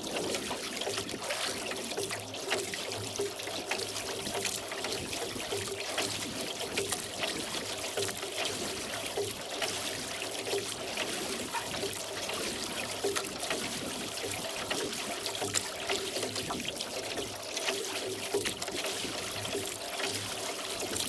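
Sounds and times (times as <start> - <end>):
oars dipping and dripping: 0.0 - 21.0
water trickling and splashing: 0.0 - 21.0.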